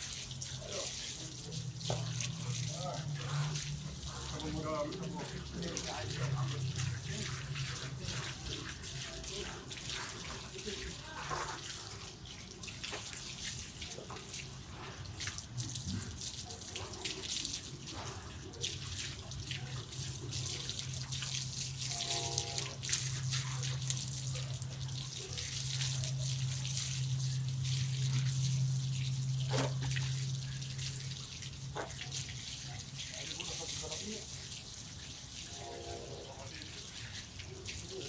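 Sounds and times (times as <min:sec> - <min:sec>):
shower water spraying: 0:00.0 - 0:38.0.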